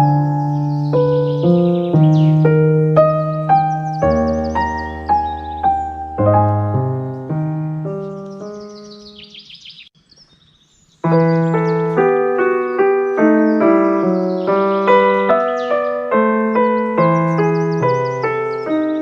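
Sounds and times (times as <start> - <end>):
piano music: 0.0 - 9.6, 11.0 - 19.0
high bird chirps: 0.0 - 19.0.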